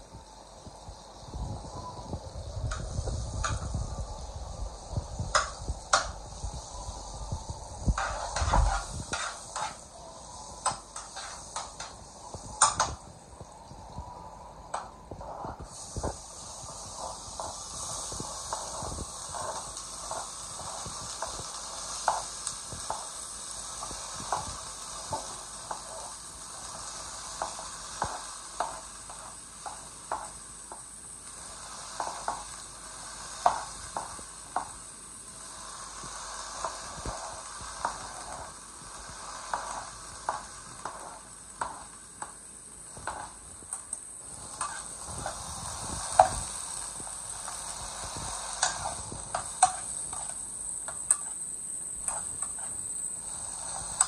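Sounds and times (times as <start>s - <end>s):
vegetables sizzling in a frying pan: 0.0s - 54.0s.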